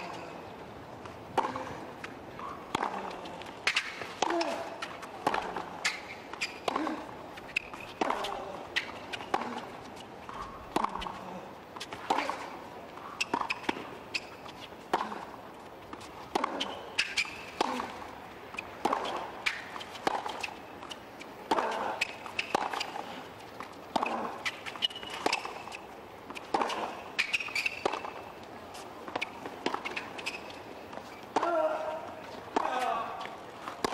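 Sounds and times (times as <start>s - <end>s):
tennis ball bouncing: 1.0s - 33.9s
tennis racket hitting ball: 1.3s - 15.3s, 16.2s - 28.2s, 29.1s - 33.9s.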